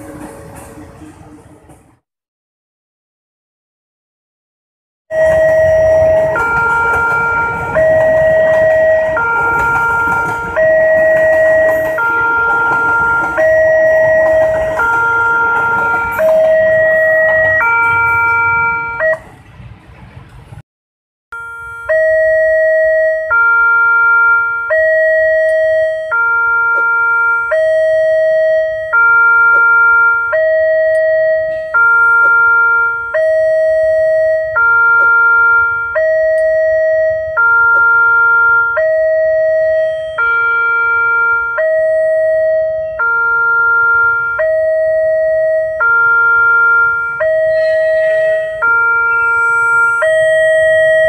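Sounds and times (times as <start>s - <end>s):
level crossing two-tone alarm chime: 7.2s - 19.2s, 21.4s - 49.3s, 50.0s - 51.0s.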